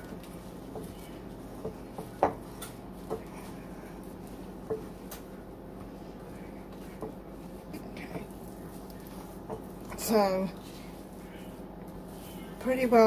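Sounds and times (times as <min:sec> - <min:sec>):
faint steady hum: 0:00.0 - 0:13.0
hands squeezing dough: 0:00.0 - 0:13.0.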